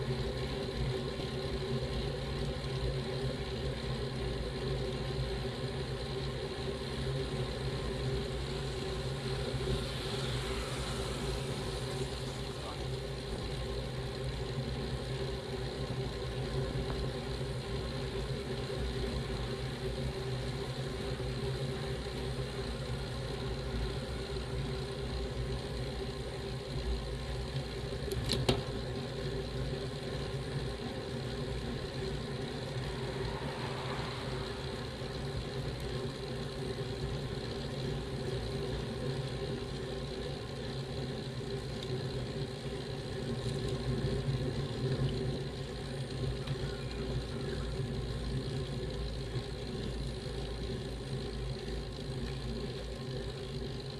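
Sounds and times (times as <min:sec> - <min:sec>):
bicycle road and wind noise: 0:00.0 - 0:53.9.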